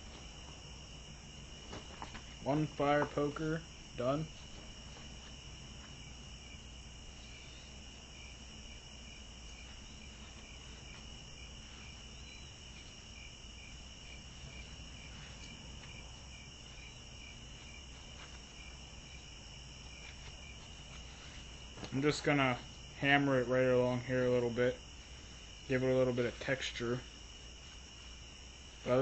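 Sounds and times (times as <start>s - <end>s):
cricket-like chirp: 0.0s - 29.0s
insects chirping: 0.0s - 29.0s.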